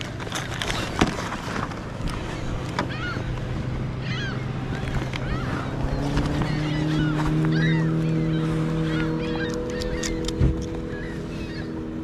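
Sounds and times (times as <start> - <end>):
boat motor humming: 0.0 - 12.0
wind and water noise: 0.0 - 12.0.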